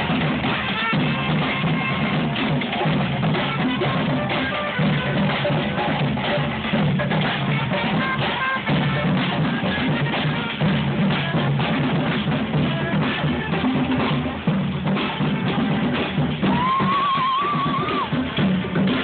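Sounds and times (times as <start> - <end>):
bass drum and snare hits: 0.0 - 19.0
parade band music: 0.0 - 19.0.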